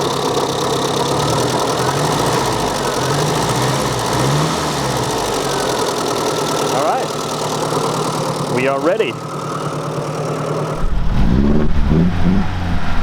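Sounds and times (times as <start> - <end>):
car engine idling roughly: 0.0 - 11.1.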